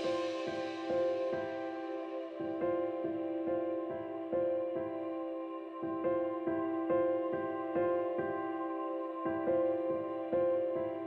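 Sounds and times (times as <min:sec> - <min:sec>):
slow soft background music: 0:00.0 - 0:11.0.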